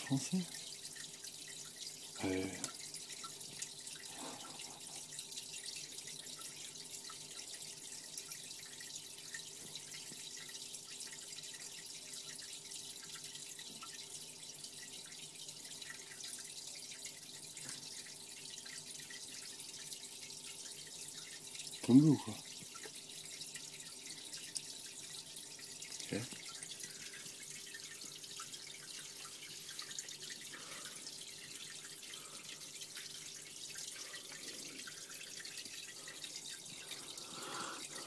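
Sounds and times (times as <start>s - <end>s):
faint steady hum: 0.0s - 38.0s
water trickling and dripping: 0.0s - 38.0s.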